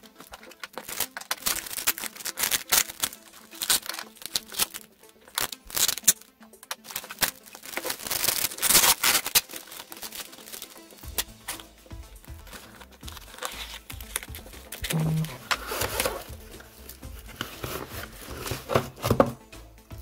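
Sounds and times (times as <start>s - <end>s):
plastic film crinkling and tearing: 0.0s - 19.3s.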